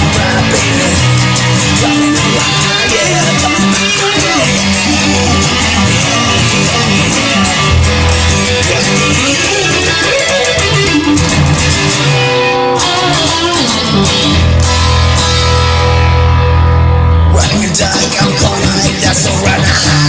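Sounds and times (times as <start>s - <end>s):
instrumental rock music: 0.0s - 20.0s.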